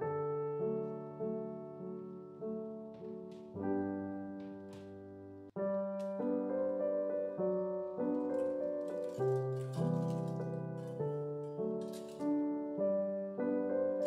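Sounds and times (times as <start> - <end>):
gentle solo piano music: 0.0 - 14.0.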